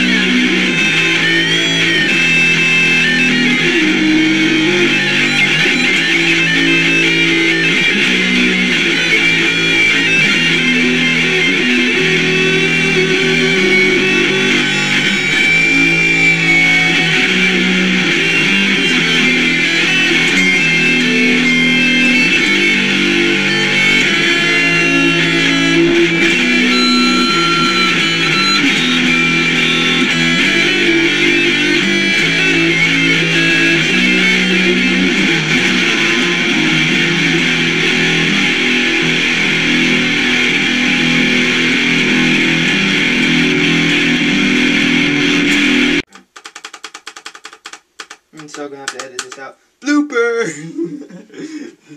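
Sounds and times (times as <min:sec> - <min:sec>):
rock music with electric guitar: 0:00.0 - 0:48.3.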